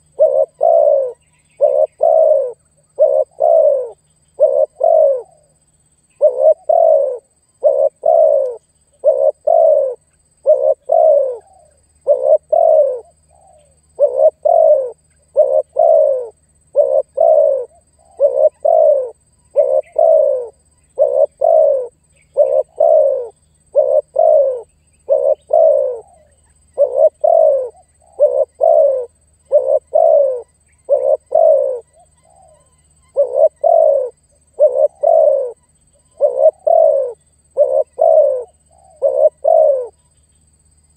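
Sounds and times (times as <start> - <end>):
dove cooing: 0.0 - 5.6, 6.2 - 40.0.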